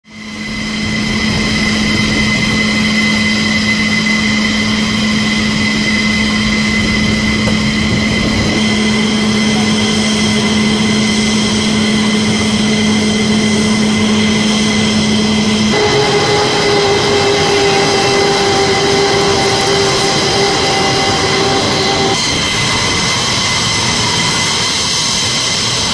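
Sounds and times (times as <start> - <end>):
jet turbine engines whining: 0.0 - 25.9.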